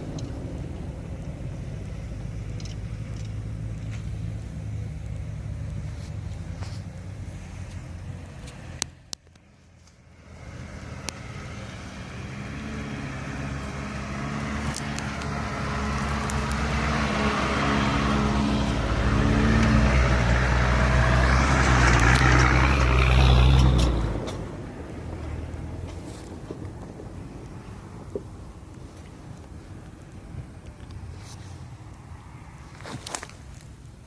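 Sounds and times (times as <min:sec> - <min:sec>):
off-road vehicle engine passing: 0:00.0 - 0:33.6.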